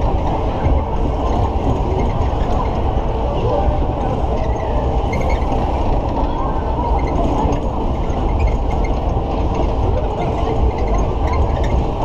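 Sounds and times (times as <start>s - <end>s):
fairground ride cars rumbling: 0.0s - 12.0s.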